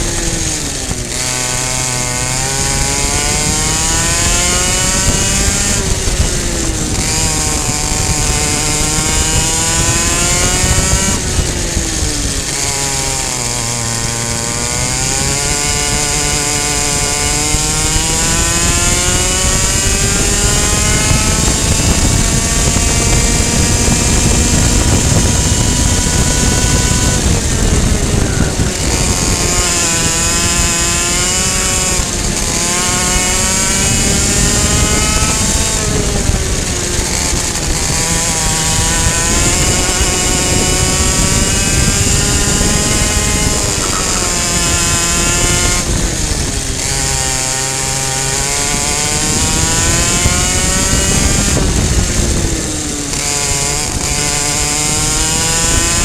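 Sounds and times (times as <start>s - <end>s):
kart engine at high revs: 0.0s - 56.0s.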